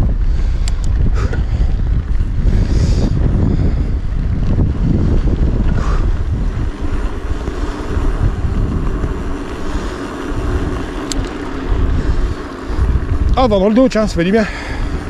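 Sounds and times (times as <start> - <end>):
bike tyres rolling on gravel: 0.0 - 15.0
wind buffeting microphone: 0.0 - 15.0.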